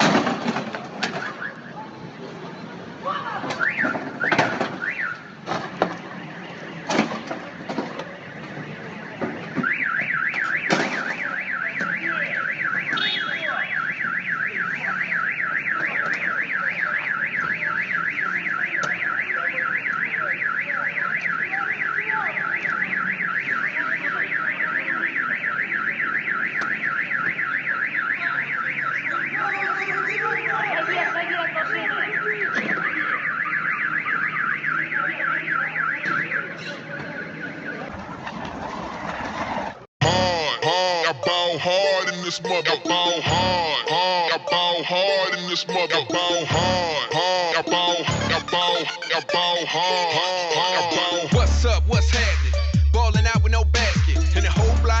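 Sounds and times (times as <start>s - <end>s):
car alarm warbling tone: 3.5s - 38.7s, 40.0s - 55.0s.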